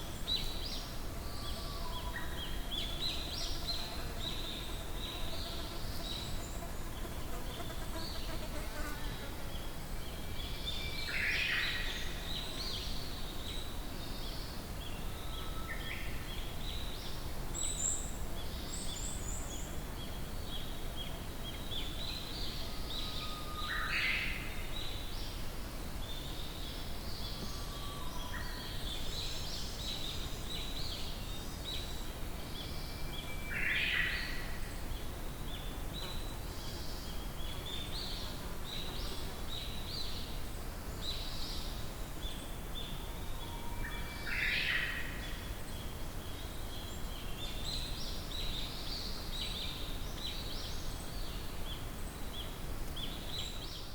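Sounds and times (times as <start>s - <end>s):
forest birds chirping and singing: 0.0s - 53.9s.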